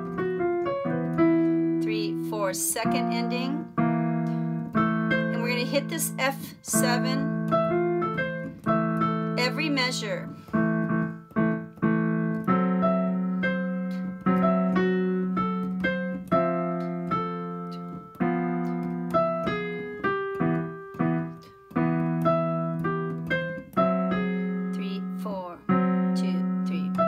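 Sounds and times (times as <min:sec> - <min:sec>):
digital piano jazz: 0:00.0 - 0:27.0.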